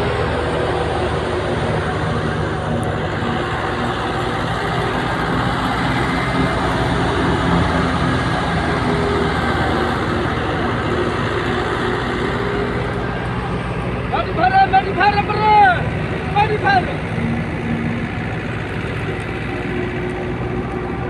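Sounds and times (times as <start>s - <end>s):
thresher running: 0.0s - 21.0s
tractor diesel engine running: 0.0s - 21.0s.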